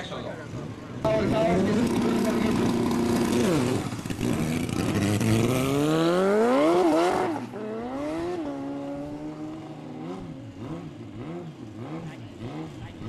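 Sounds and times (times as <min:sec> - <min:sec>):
motorcycle engine revving hard: 0:00.6 - 0:13.0.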